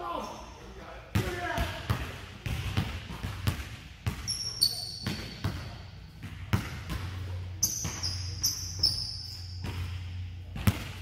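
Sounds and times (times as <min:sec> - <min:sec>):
sneakers squeaking: 0:00.2 - 0:11.0
basketball bouncing on wooden floor: 0:01.2 - 0:04.3, 0:05.0 - 0:11.0.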